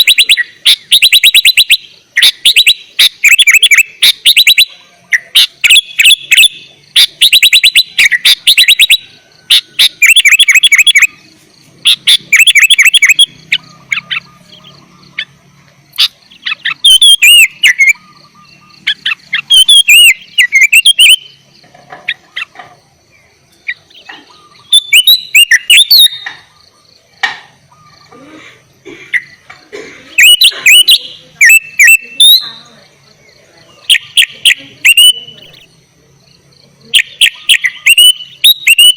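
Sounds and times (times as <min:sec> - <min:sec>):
bird whistled notes: 0:00.0 - 0:22.8, 0:23.6 - 0:28.2, 0:30.1 - 0:35.7, 0:36.8 - 0:38.9
bird chattering: 0:00.0 - 0:38.9
bird singing: 0:00.0 - 0:38.9.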